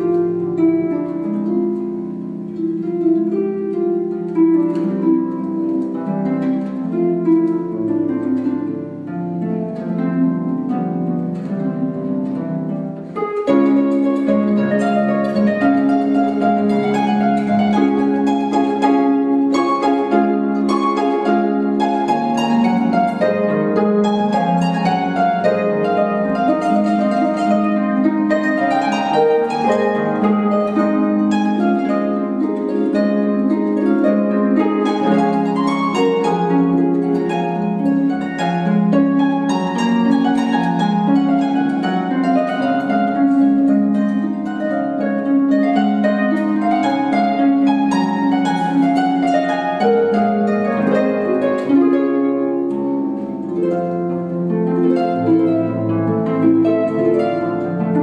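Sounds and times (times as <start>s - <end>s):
solo harp playing: 0.0s - 58.0s.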